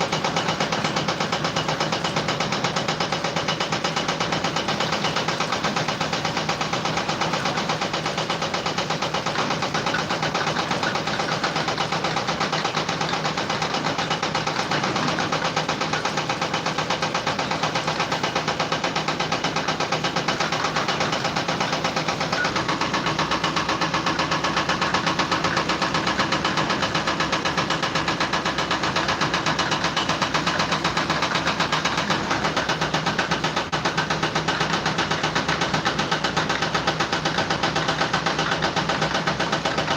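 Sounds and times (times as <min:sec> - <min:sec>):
machine running with fast pulse: 0:00.0 - 0:39.9.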